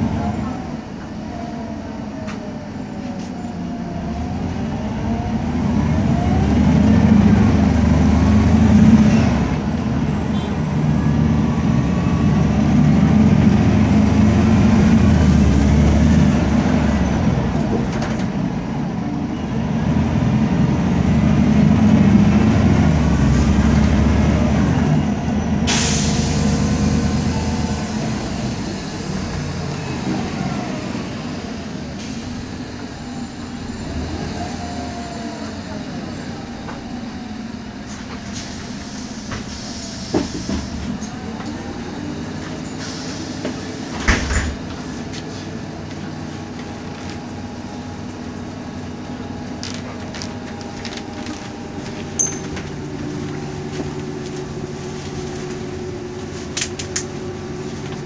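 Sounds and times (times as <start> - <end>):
bus engine pulling away: 0.0 - 58.0.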